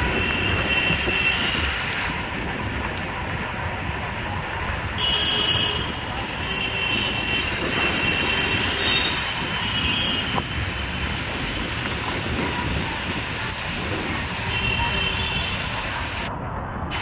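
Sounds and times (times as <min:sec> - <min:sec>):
heavy rain: 0:00.0 - 0:17.0
motorbike road noise: 0:00.0 - 0:17.0.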